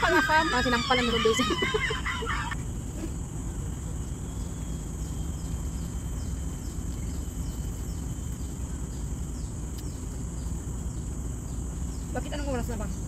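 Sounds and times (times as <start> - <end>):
high-pitched insect drone: 0.0 - 13.0
low outdoor rumble: 0.0 - 13.0.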